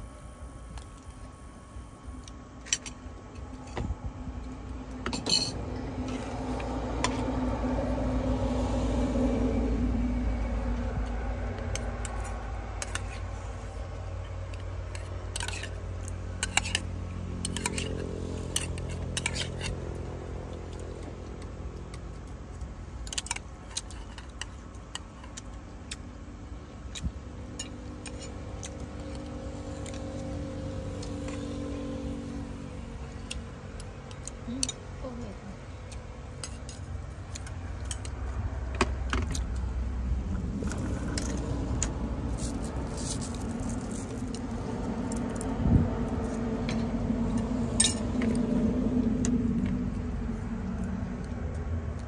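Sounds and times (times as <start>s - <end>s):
low background rumble: 0.0s - 52.0s.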